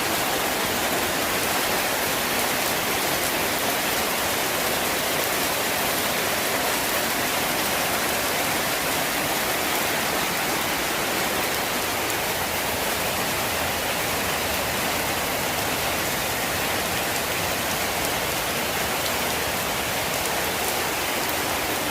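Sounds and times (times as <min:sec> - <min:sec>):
rain pattering on surfaces: 0:00.0 - 0:21.9.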